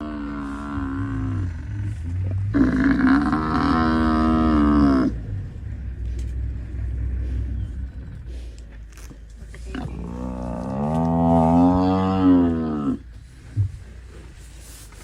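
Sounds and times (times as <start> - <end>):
buffalo bellowing: 0.0 - 8.5, 9.6 - 13.1
steady low rumble: 0.0 - 15.0.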